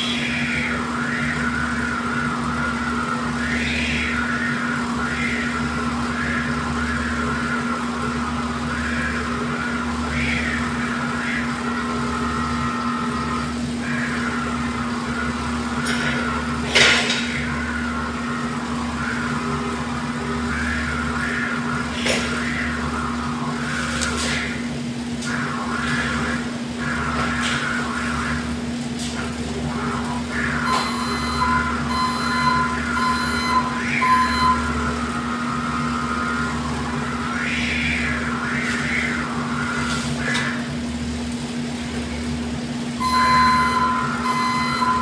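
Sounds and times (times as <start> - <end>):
electric motor hum and whine: 0.0 - 45.0.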